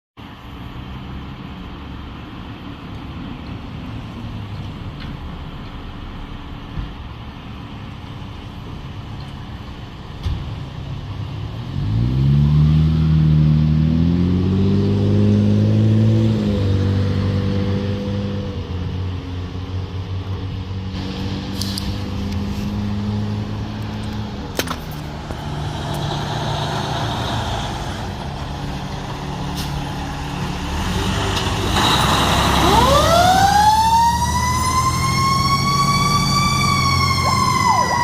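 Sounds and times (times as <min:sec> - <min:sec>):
diesel engine idling and revving: 0:00.2 - 0:38.0.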